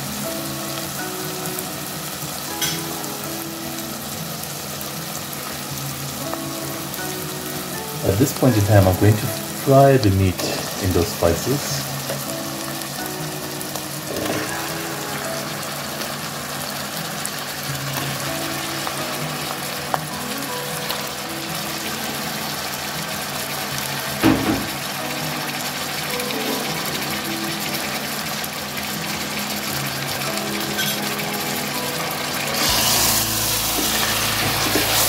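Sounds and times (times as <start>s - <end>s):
background music: 0.0s - 35.0s
meat sizzling in oil: 0.0s - 35.0s.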